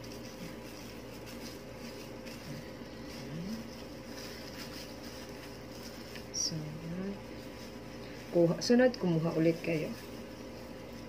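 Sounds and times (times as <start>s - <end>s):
low electrical hum: 0.0s - 11.0s
soft rustles of hair brushing: 0.0s - 11.0s.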